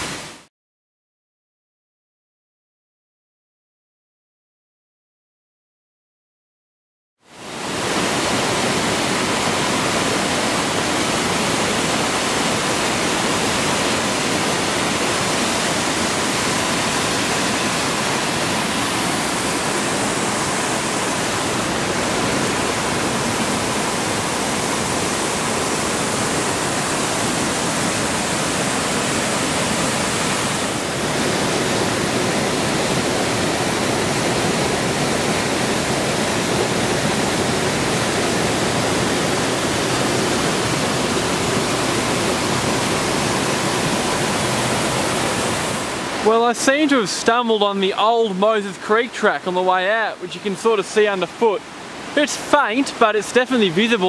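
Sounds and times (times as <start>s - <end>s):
waterfall roaring over rock: 7.3s - 54.0s.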